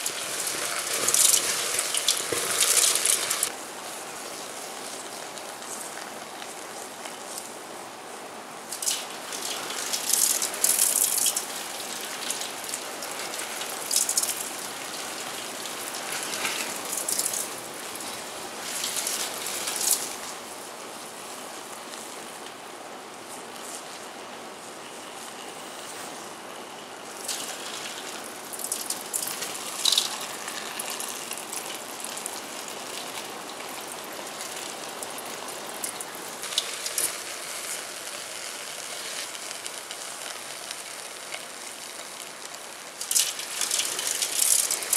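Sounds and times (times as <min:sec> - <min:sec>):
burning metal hissing and crackling: 0:00.0 - 0:44.9.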